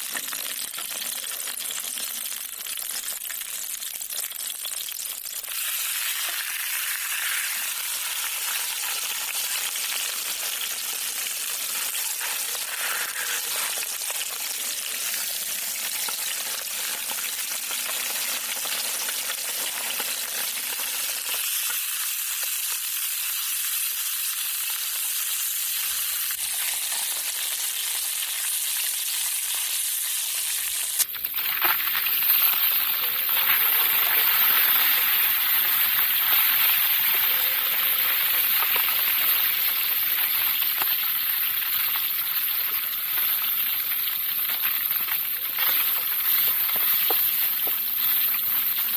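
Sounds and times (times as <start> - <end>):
fish sizzling in hot oil: 0.0 - 48.9.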